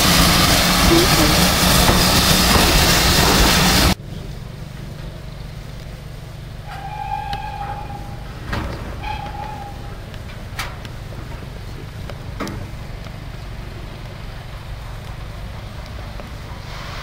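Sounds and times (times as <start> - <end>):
steam train rushing noise: 0.0 - 17.0.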